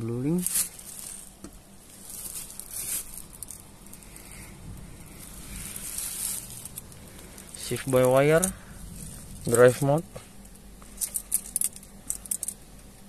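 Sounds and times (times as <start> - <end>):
faint rustling and handling: 0.0 - 13.0
low steady hum: 0.0 - 13.0.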